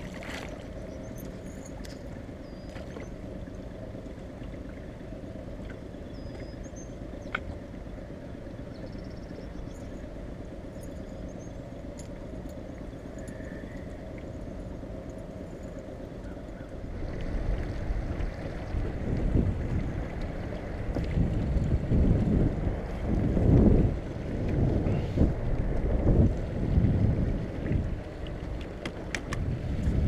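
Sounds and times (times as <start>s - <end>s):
outboard motor rumbling: 0.0s - 30.0s.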